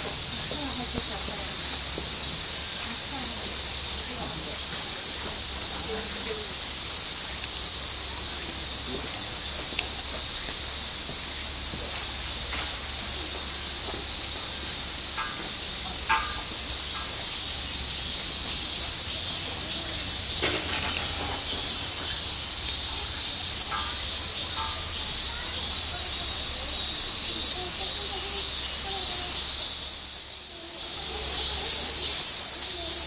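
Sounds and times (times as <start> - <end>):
cicadas calling: 0.0 - 33.0.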